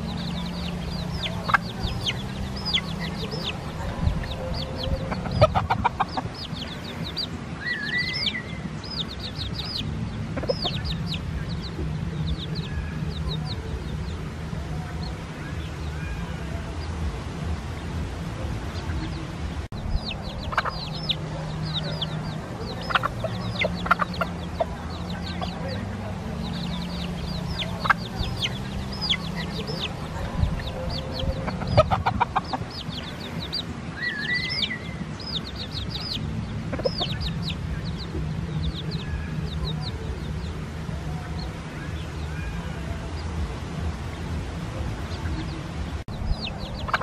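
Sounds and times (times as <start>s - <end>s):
chickens clucking: 0.0s - 47.0s
chicks peeping: 0.0s - 47.0s.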